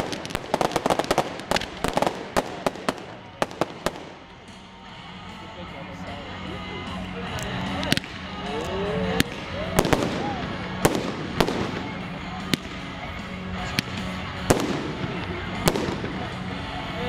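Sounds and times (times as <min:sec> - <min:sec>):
firework rockets bursting: 0:00.0 - 0:04.8, 0:07.4 - 0:17.0.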